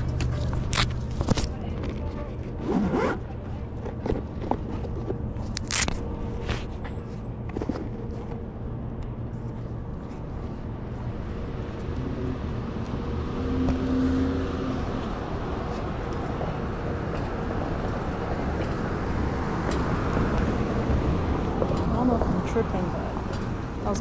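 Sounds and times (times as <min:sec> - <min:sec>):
car traffic: 0:00.0 - 0:24.0
wind and road rumble: 0:00.0 - 0:24.0.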